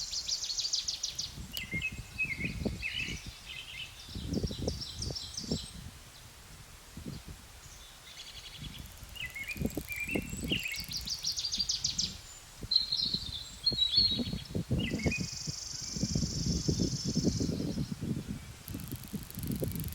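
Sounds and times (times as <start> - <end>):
songbirds singing and calling: 0.0 - 6.3, 7.0 - 19.9.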